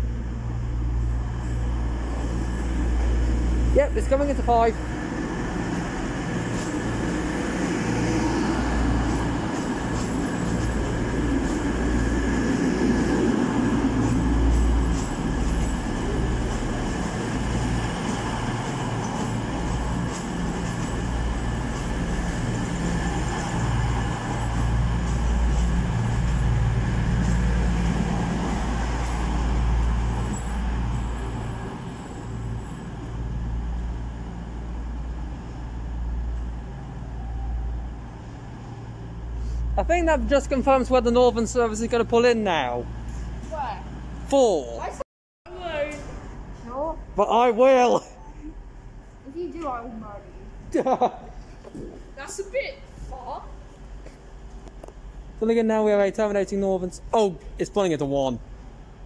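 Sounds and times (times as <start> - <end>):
diesel train rumbling past: 0.0 - 47.6.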